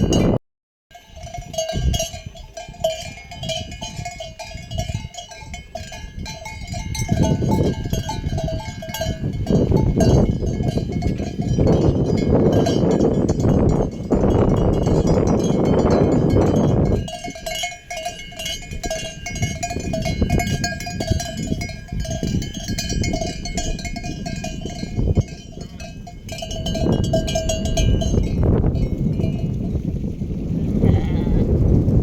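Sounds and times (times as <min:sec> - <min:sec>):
sheep bells clanking: 0:00.0 - 0:29.9.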